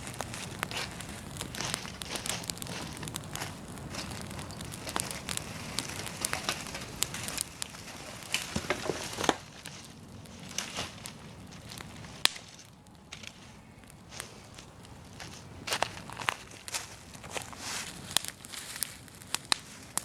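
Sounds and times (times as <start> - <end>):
leaf fire crackling and popping: 0.0 - 20.0.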